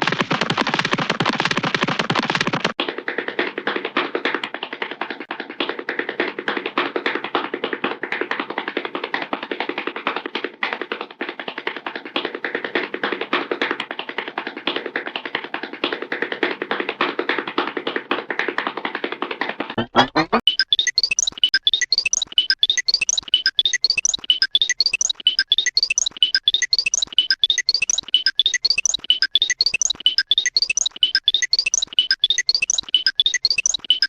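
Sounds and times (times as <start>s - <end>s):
cartoon running taps: 0.0s - 34.0s.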